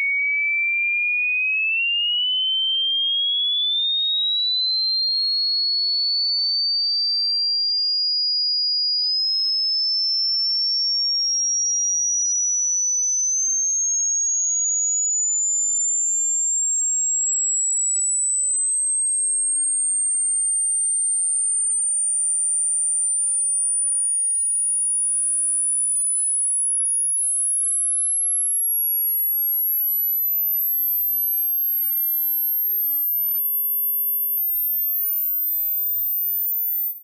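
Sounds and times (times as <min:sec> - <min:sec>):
sine tone frequency sweep: 0:00.0 - 0:37.0.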